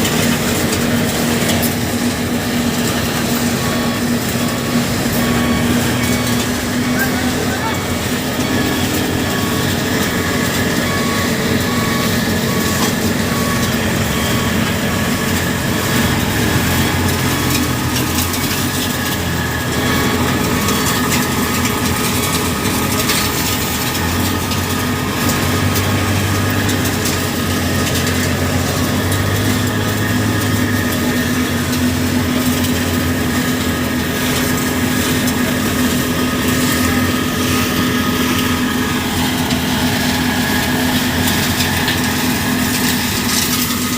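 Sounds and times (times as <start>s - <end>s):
diesel machinery engine running: 0.0s - 43.9s.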